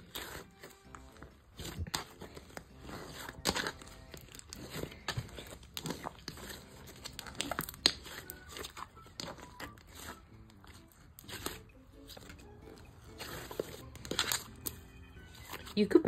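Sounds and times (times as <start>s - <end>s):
slime squishing: 0.0s - 16.0s.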